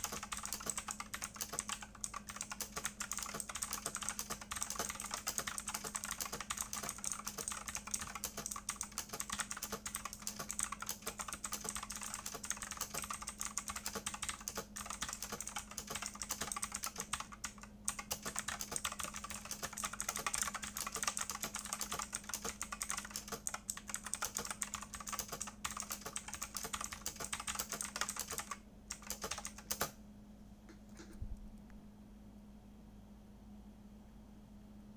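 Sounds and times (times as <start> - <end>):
typing on mechanical keyboard: 0.0 - 30.0
steady low hum: 0.0 - 34.9.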